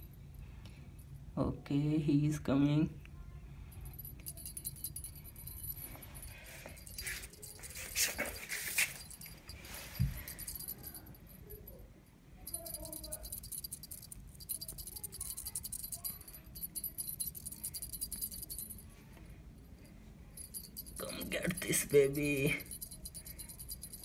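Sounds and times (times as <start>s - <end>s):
cat toy jingling: 3.7s - 24.0s.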